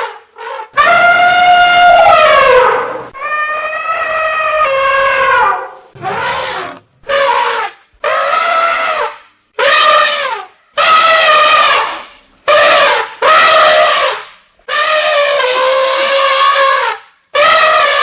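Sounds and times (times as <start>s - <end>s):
elephant trumpeting: 0.4s - 18.0s.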